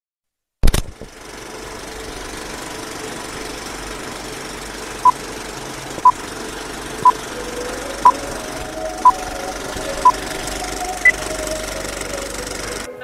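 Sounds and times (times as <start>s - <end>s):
film projector rattle: 0.7s - 12.9s.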